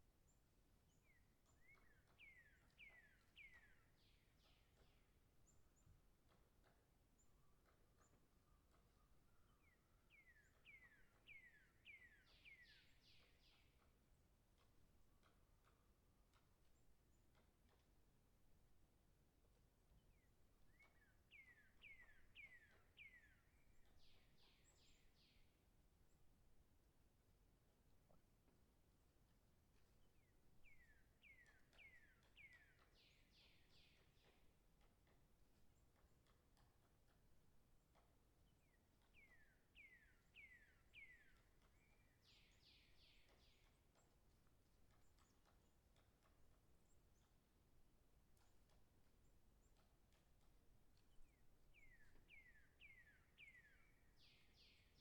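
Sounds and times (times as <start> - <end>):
woodpecker tapping: 0.6 - 26.6, 27.6 - 55.0.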